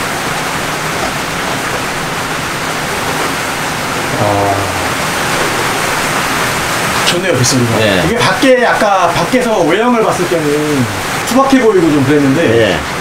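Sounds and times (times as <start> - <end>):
rain on roof and skylights: 0.0 - 13.0.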